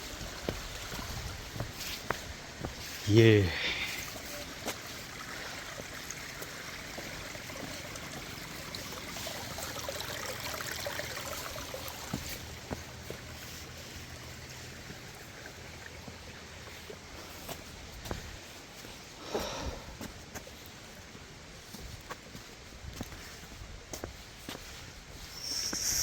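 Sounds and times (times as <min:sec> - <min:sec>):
stream water rushing: 0:00.0 - 0:21.8.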